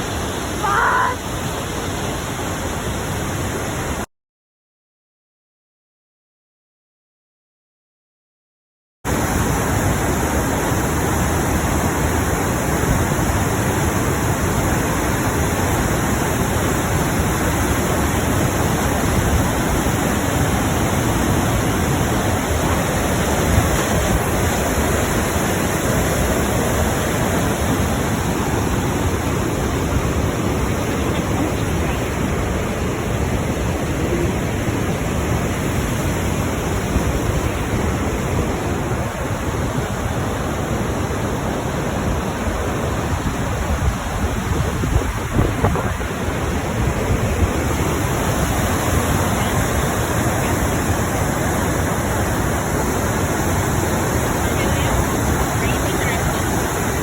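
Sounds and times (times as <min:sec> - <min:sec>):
waterfall roaring: 0:00.0 - 0:04.0, 0:09.1 - 0:57.0.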